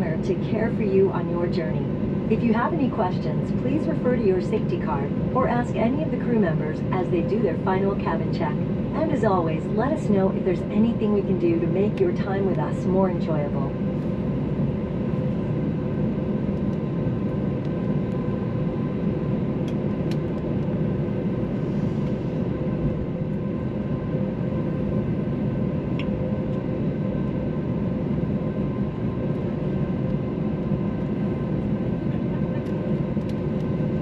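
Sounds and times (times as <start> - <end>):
aircraft engines humming in cabin: 0.0 - 34.0.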